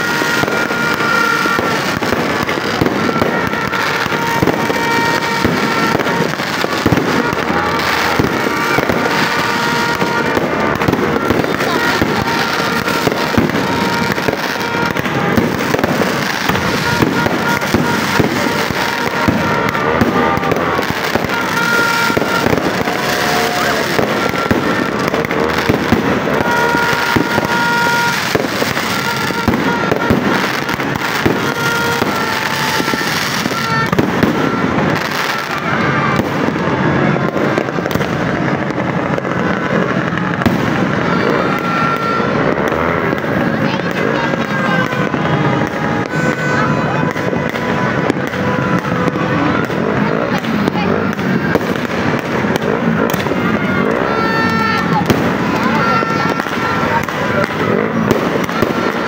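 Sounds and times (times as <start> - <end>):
firework crackling: 0.0 - 59.0
firework shells bursting: 0.0 - 59.0
rockets launching: 0.0 - 59.0.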